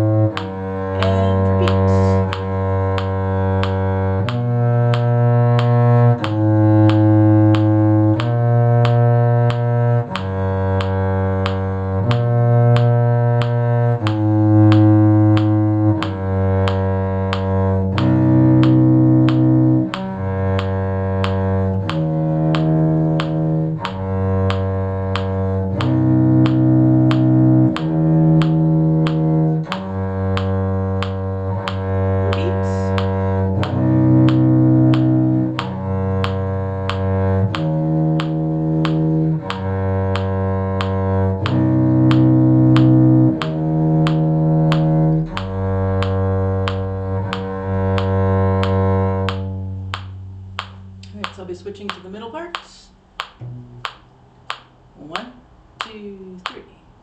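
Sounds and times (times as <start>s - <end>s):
bowed strings playing tune: 0.0s - 55.2s
metronome clicking: 0.0s - 57.0s.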